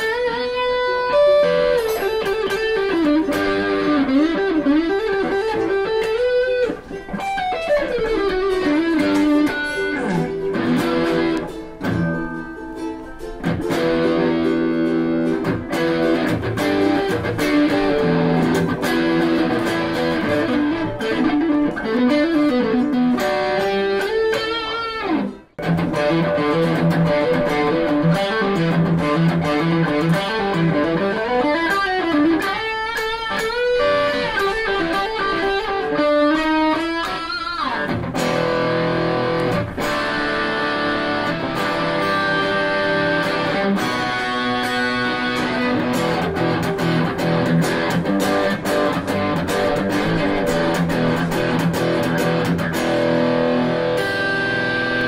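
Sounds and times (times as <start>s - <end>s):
electric guitar lead runs: 0.0s - 12.4s, 13.4s - 55.0s.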